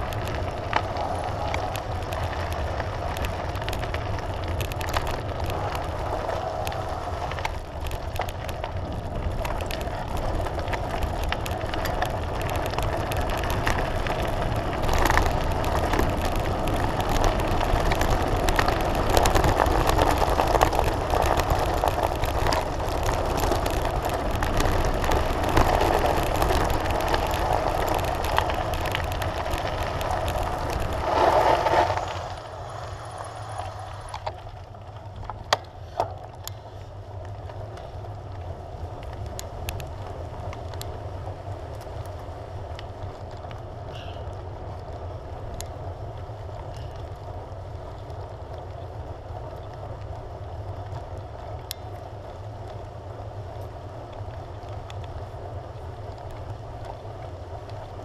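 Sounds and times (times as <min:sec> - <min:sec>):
bike rattles and clicks: 0:00.0 - 0:58.0
bike tyres crunching over gravel: 0:00.0 - 0:58.0.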